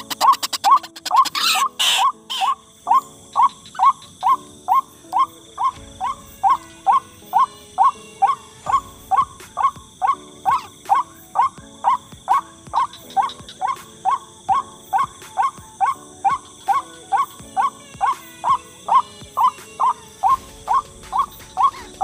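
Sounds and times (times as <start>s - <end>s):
bird calling kwak notes: 0.0s - 22.0s.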